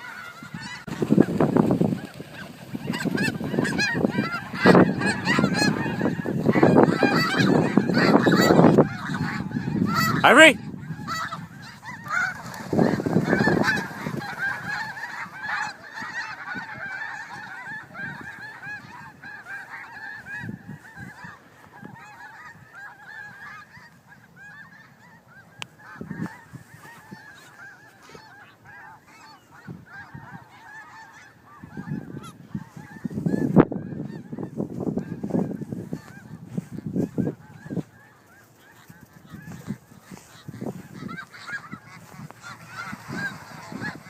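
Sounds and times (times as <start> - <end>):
geese honking: 0.0 - 44.0.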